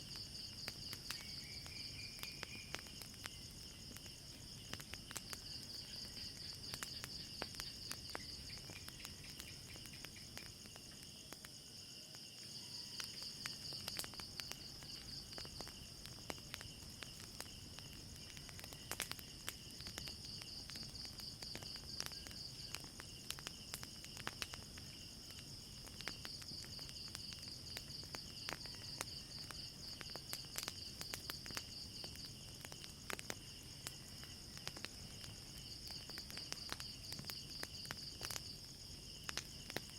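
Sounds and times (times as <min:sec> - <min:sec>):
fire crackling and popping: 0:00.0 - 0:39.9
insects trilling: 0:00.0 - 0:39.9.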